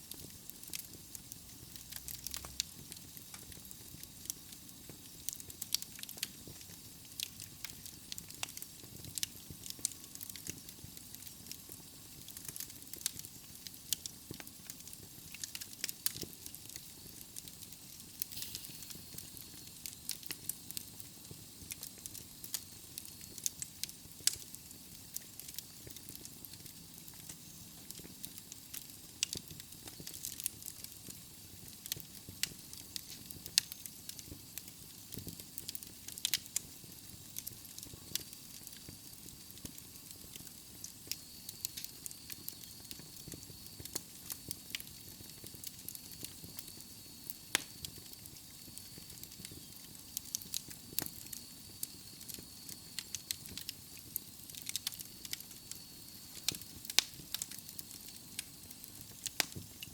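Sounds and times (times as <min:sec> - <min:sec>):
fire hissing softly: 0:00.0 - 0:59.9
logs crackling and popping: 0:00.1 - 0:59.9.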